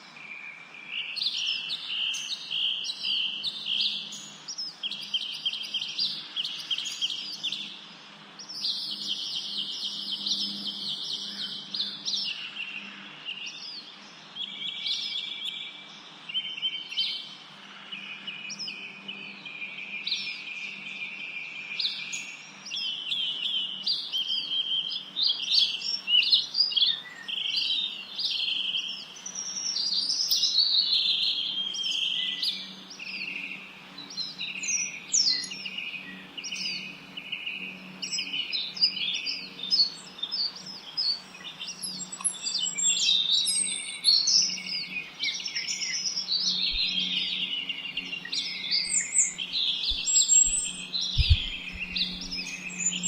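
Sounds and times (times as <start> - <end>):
birds singing and chirping: 0.0 - 53.0.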